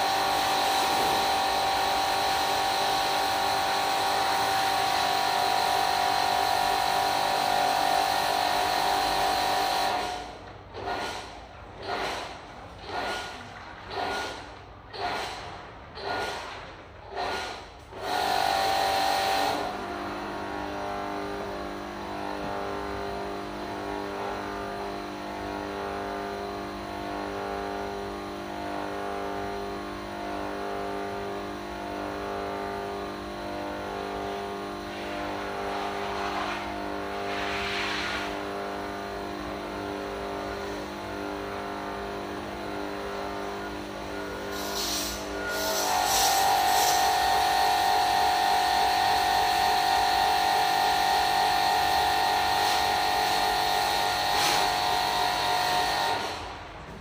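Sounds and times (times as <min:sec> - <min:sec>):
electric pump running: 0:00.0 - 0:57.0.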